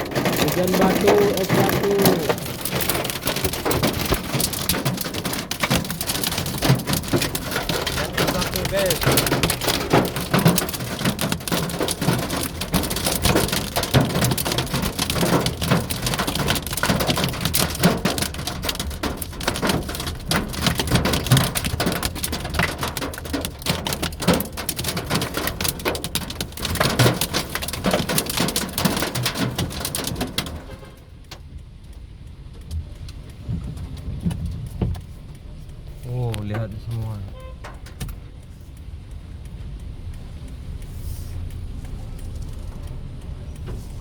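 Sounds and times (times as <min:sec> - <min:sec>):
hail and rain clatter: 0:00.0 - 0:44.0.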